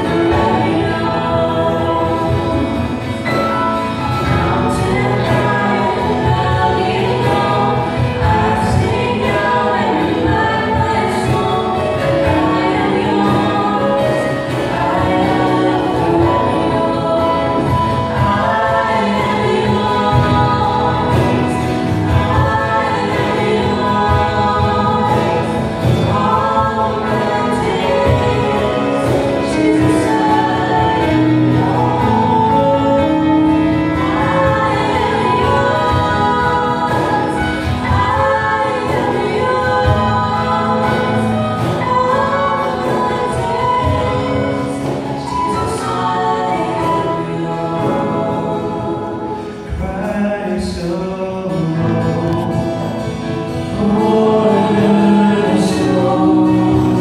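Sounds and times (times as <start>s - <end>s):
acoustic guitar: 0.0s - 57.0s
people singing into microphones: 0.0s - 57.0s.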